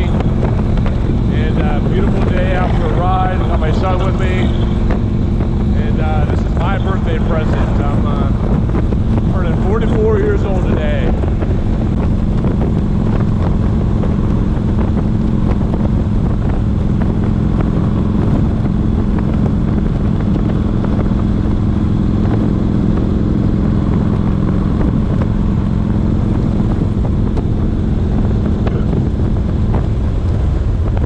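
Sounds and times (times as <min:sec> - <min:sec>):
motorcycle engine running evenly: 0:00.0 - 0:31.0
wind on microphone: 0:00.0 - 0:31.0.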